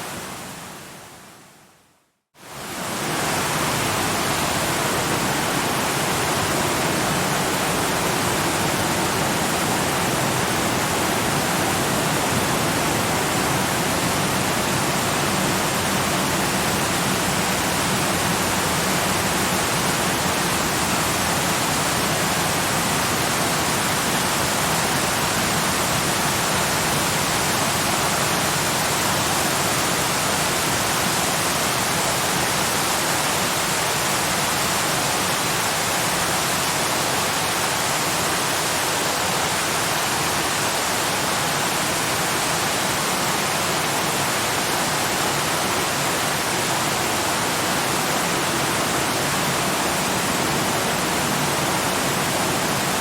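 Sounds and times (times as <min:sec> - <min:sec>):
waterfall roaring: 0:02.4 - 0:53.0.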